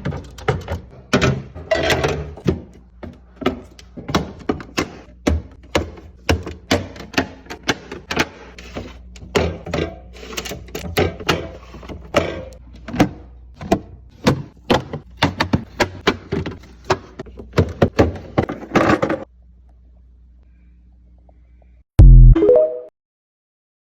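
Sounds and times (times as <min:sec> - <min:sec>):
containers clacking on fridge shelves: 0:00.0 - 0:19.3.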